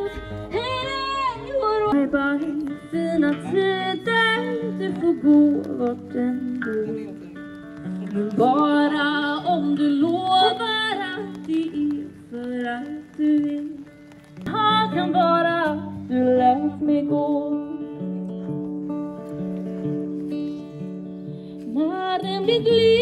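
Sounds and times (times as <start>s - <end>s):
woman singing: 0.0s - 7.2s, 8.0s - 18.1s, 21.6s - 23.0s
guitar chords: 0.0s - 23.0s.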